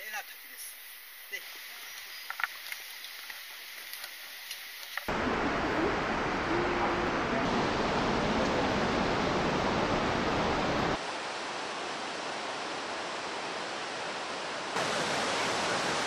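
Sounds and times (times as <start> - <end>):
waterfall rushing hiss: 0.0 - 16.0.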